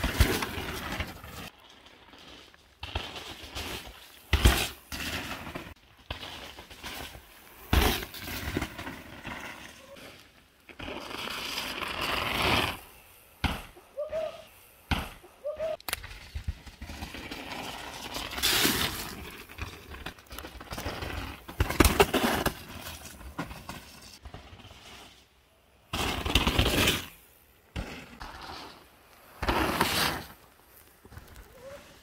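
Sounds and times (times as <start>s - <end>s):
bike rattling over bumps: 0.0s - 13.8s, 16.0s - 31.8s
bike tyre noise: 0.0s - 32.0s.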